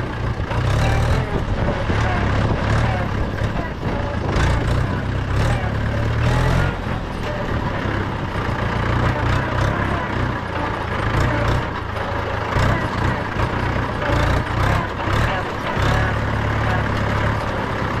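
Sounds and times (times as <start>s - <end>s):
engine knocks: 0.0s - 18.0s
tractor diesel engine throbbing: 0.0s - 18.0s.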